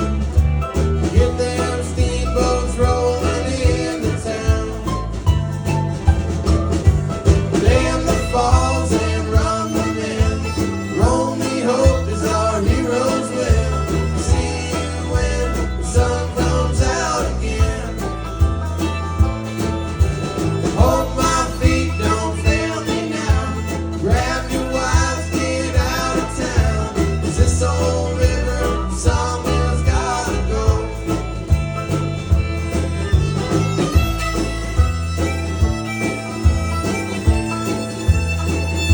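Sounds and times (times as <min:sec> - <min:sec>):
country bluegrass music: 0:00.0 - 0:38.9.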